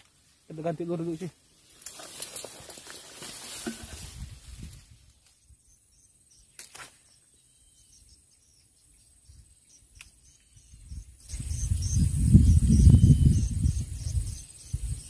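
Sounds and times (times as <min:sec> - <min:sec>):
faint insect chirps: 0:00.0 - 0:15.0
insects droning: 0:00.0 - 0:15.0.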